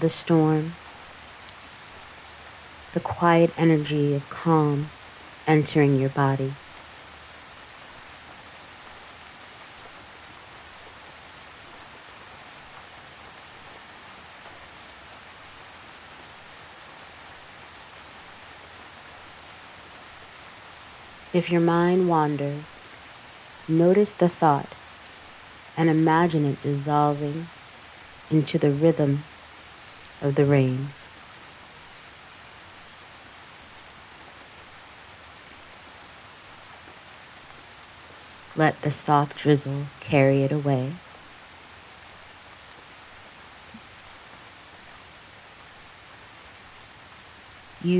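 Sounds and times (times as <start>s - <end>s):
gentle rain patter: 0.0s - 47.9s.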